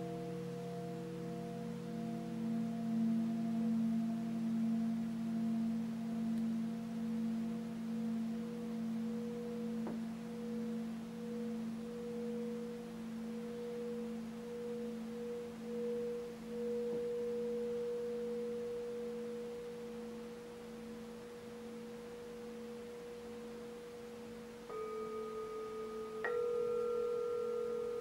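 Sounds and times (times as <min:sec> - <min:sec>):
singing bowls ringing: 0:00.0 - 0:28.0.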